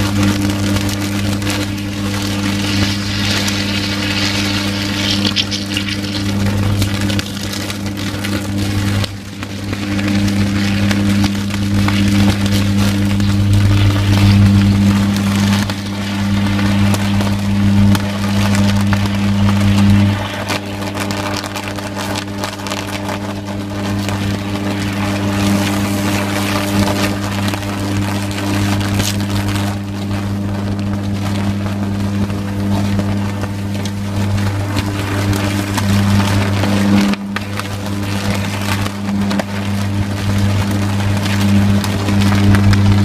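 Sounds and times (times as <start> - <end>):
electrical crackling: 0.0 - 43.0
power line arc buzzing: 0.0 - 43.0
steady low hum: 0.0 - 43.0.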